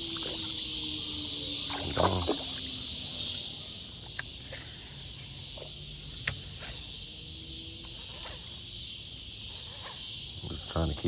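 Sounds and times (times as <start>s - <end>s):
insect chorus: 0.0s - 11.0s.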